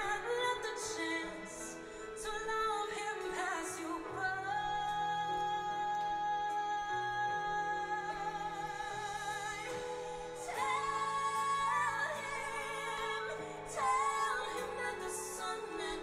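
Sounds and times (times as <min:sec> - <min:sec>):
women singing a ballad duet: 0:00.0 - 0:16.0.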